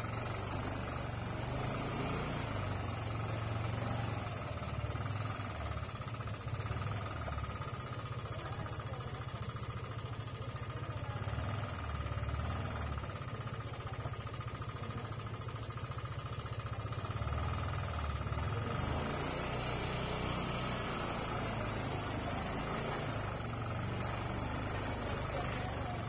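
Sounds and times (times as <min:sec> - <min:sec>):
engine idling: 0:00.0 - 0:26.0
outdoor background noise: 0:00.0 - 0:26.0.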